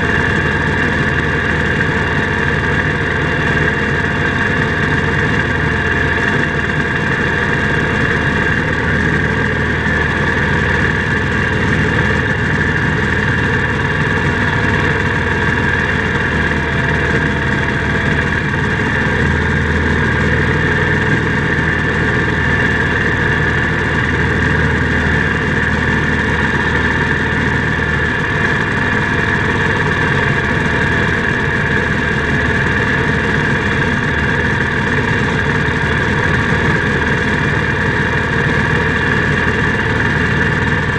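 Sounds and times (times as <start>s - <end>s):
garden tractor engine running: 0.0s - 40.9s
high whine: 0.0s - 40.9s.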